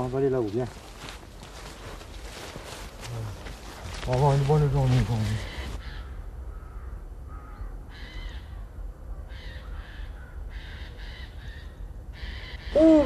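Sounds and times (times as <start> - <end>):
bird calling: 1.0 - 8.7, 9.3 - 13.0.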